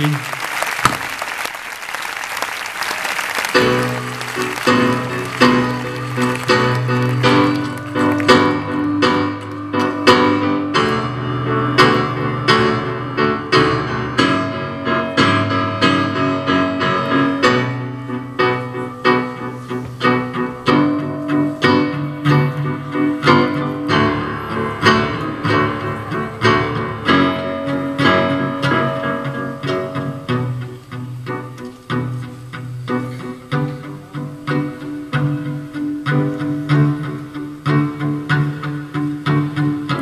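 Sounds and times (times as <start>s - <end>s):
cello: 3.5s - 40.0s
violin: 3.5s - 40.0s
piano playing repeated notes: 3.6s - 40.0s.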